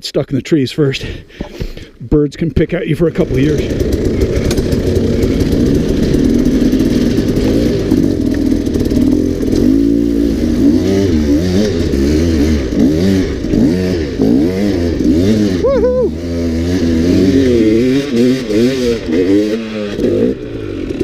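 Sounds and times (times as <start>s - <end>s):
dirt bike engine revving: 3.1s - 21.0s.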